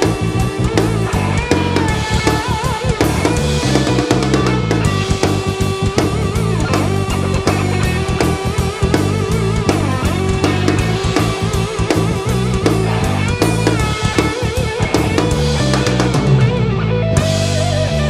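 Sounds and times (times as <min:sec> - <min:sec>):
drum kit beat: 0:00.0 - 0:18.0
electric guitars: 0:00.0 - 0:18.0.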